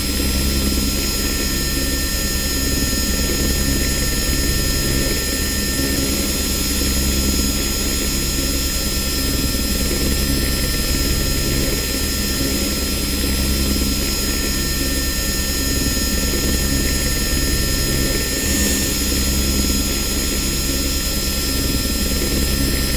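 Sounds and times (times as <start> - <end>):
helicopter drone: 0.0 - 22.9.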